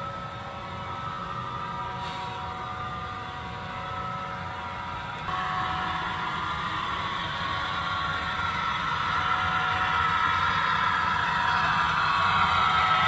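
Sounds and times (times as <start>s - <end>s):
model train whirring hum: 0.0s - 13.0s.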